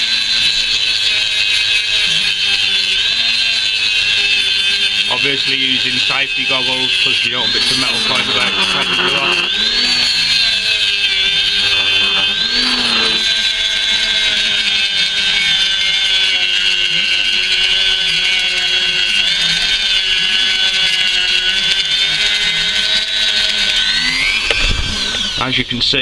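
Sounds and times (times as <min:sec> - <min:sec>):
rotary tool grinding metal: 0:03.1 - 0:25.7.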